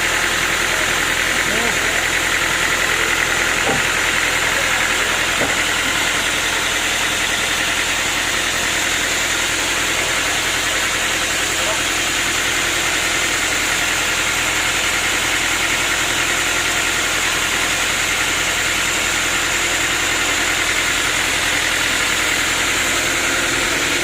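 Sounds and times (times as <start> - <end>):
sawmill motor hum: 0.0 - 24.0.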